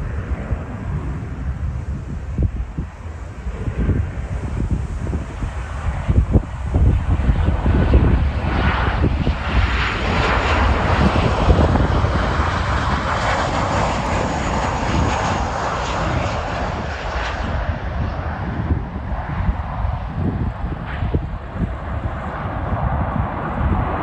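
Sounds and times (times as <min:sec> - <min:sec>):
airliner engine noise: 0:00.0 - 0:24.0
wind buffeting microphone: 0:00.0 - 0:24.0.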